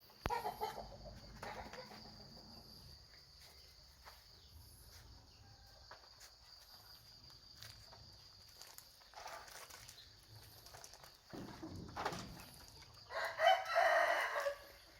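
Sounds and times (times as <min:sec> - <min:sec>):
insects chirring: 0:00.1 - 0:14.9.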